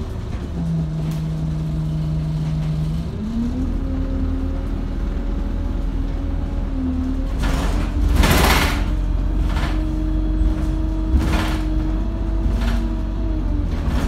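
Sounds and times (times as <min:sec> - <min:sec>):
bus engine humming: 0:00.0 - 0:14.0.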